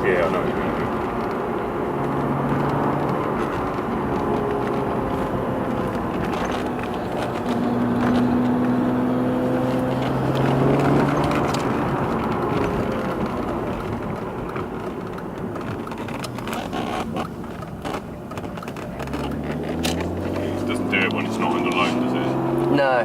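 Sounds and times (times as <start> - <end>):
car engine under throttle: 0.0 - 23.0
road noise: 0.0 - 23.0.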